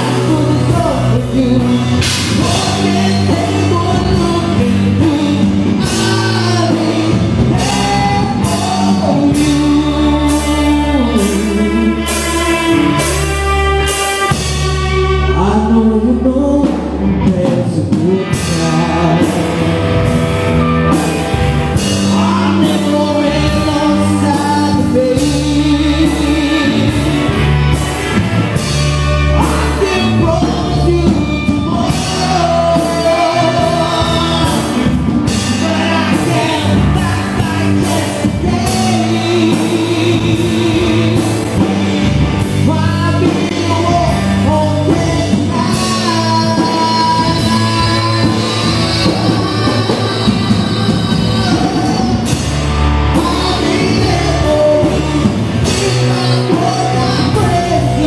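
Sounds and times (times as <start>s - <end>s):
lead singer singing: 0.0s - 58.0s
live band playing: 0.0s - 58.0s.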